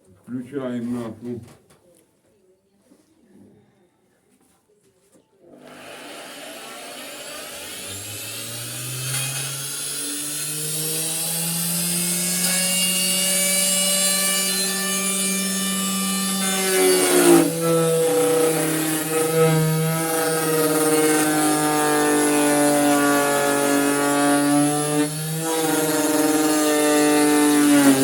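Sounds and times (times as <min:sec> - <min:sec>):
cutter rasping into wood: 0:05.6 - 0:28.0
router motor whining: 0:05.6 - 0:28.0.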